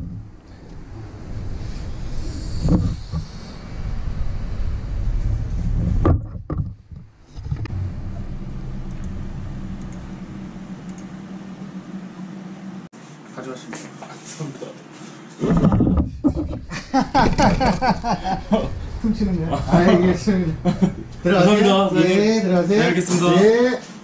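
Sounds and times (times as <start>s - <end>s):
steady low hum: 0.0s - 13.2s, 15.2s - 23.6s.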